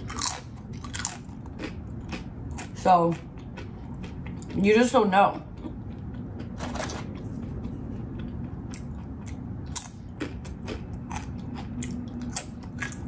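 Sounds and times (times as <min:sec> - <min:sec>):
chewing crunchy chips: 0:00.0 - 0:13.0.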